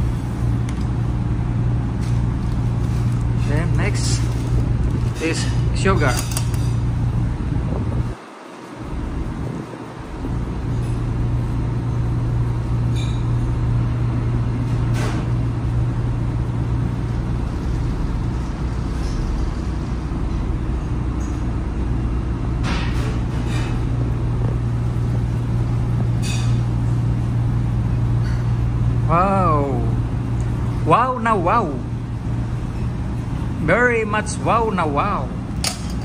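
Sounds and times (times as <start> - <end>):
low machinery hum: 0.0 - 36.0.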